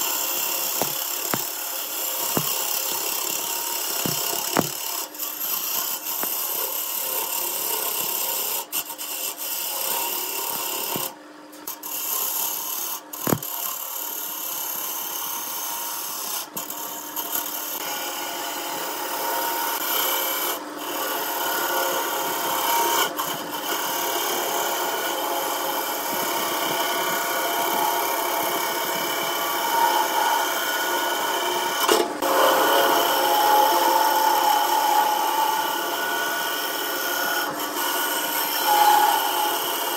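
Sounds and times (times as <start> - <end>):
lathe tool scraping wood: 0.0 - 11.1, 17.8 - 39.9.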